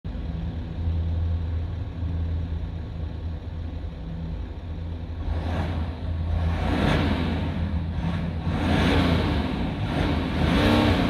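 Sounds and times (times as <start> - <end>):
diesel engine idling and revving: 0.1 - 11.0.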